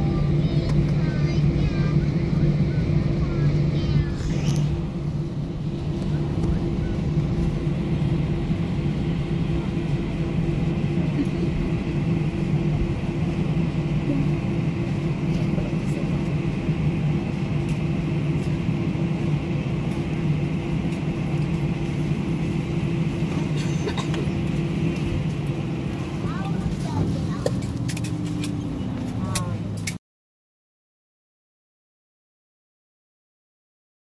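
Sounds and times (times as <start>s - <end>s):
jet engines humming in cabin: 0.0s - 30.0s.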